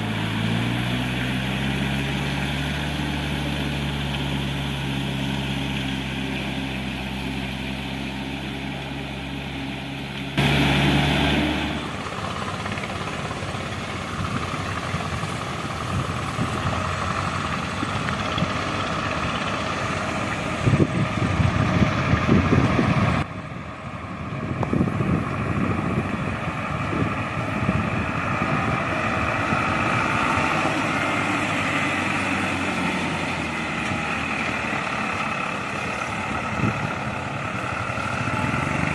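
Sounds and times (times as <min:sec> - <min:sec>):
diesel engines of heavy machinery: 0:00.0 - 0:38.9.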